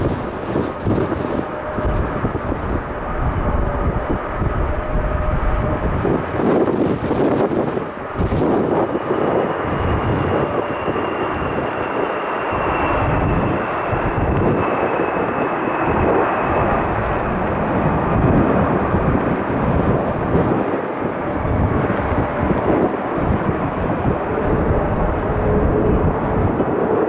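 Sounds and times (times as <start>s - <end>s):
high engine whine: 0.0s - 27.0s
jet engines roaring: 0.0s - 27.0s.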